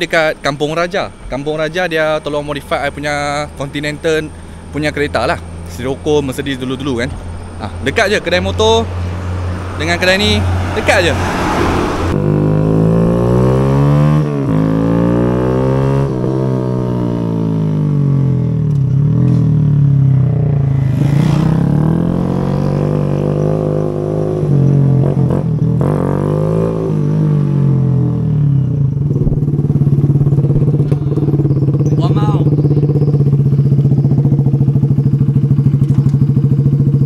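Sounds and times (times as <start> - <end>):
motorcycle engine revving: 4.9 - 37.0.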